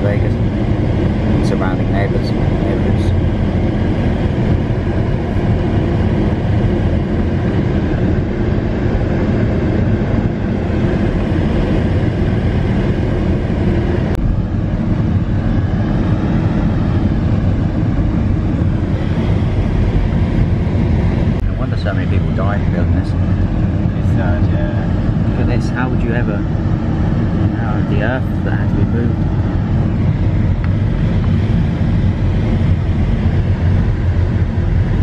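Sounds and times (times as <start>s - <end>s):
car road rumble: 0.0s - 35.0s.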